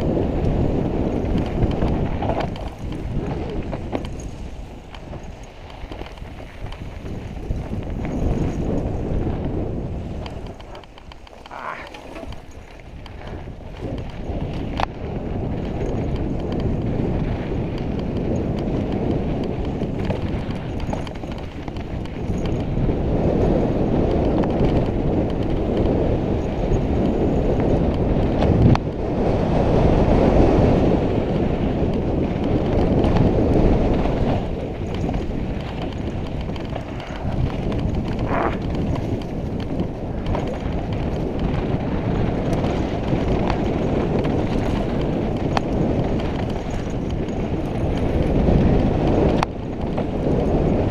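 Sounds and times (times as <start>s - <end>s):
bike rattling on bumps: 0.0s - 50.9s
bike tyres rumbling on dirt: 0.0s - 50.9s
wind buffeting microphone: 0.0s - 50.9s.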